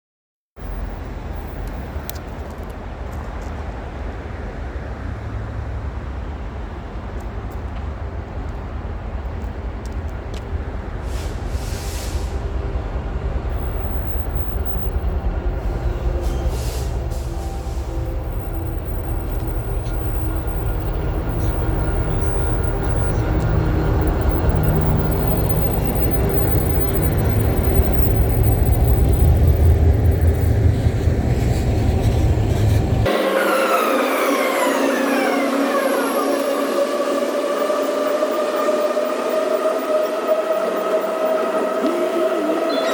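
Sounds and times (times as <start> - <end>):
vehicle rumble: 0.6 - 42.9.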